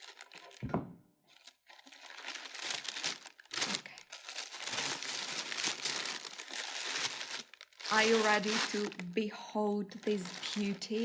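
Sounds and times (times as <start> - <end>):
paper crinkling and rustling: 0.0 - 0.6, 1.3 - 9.2, 10.0 - 11.0.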